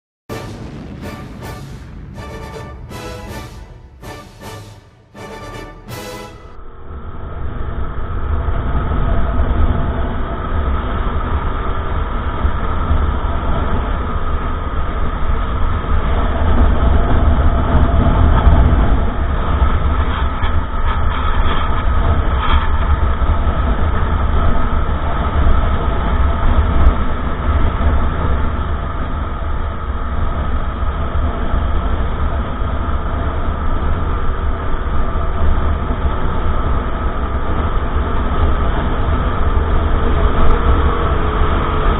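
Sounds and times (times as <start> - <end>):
wind rumble on microphone: 6.7 - 41.9.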